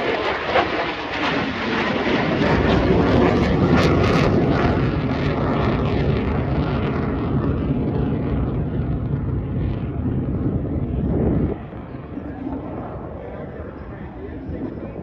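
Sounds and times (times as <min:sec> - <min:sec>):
jet aircraft rumble: 0:00.0 - 0:15.0.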